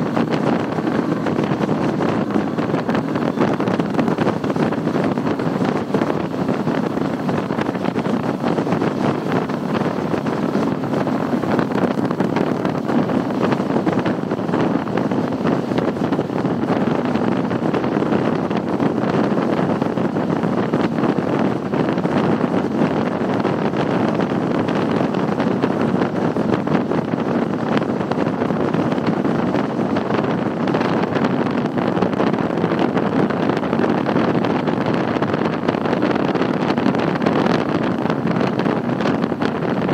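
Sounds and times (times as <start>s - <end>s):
outboard motors running at speed: 0.0s - 39.9s
wind rushing on microphone: 0.0s - 39.9s.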